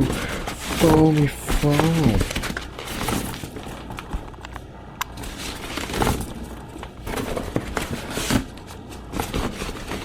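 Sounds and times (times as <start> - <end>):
cardboard and foam rustling: 0.0 - 4.4, 5.1 - 10.0.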